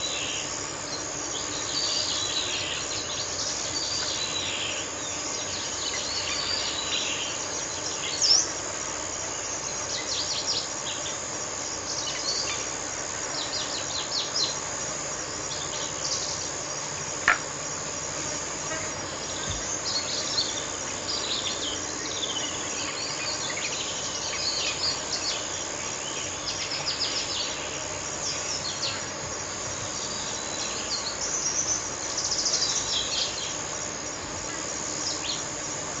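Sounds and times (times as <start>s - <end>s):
birds chirping and twittering: 0.0s - 35.9s
insect chorus: 0.0s - 36.0s.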